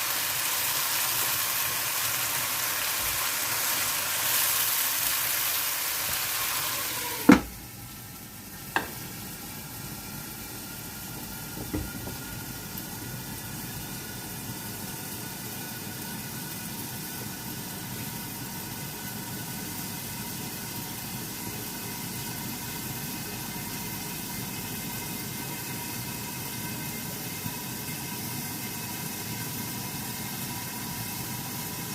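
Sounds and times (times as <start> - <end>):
chicken wings sizzling in pan: 0.0 - 31.9.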